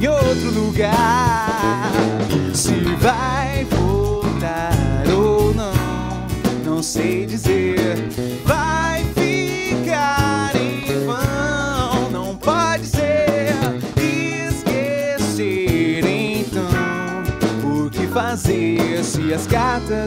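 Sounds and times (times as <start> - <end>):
acoustic and electric guitars: 0.0 - 20.0
bass guitar: 0.0 - 20.0
drum kit: 0.0 - 20.0
lead vocal singing: 0.0 - 20.0.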